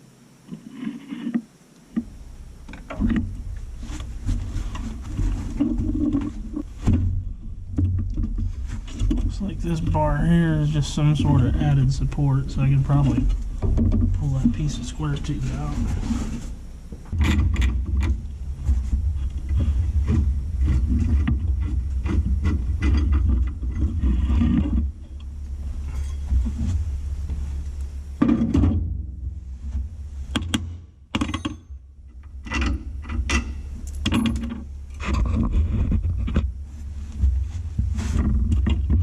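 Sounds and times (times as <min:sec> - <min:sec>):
steady low rumble: 0:01.8 - 0:39.0.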